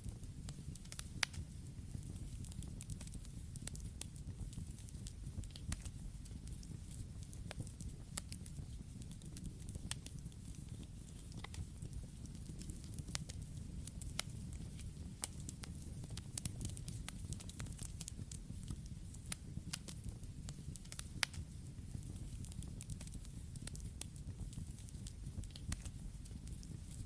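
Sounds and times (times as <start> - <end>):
low rumble of flames: 0.0 - 27.0
wood crackling and popping: 0.0 - 27.0.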